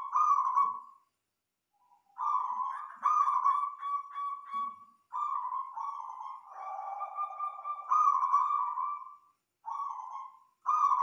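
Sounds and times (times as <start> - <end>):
dove cooing: 0.0 - 0.8, 2.2 - 11.0.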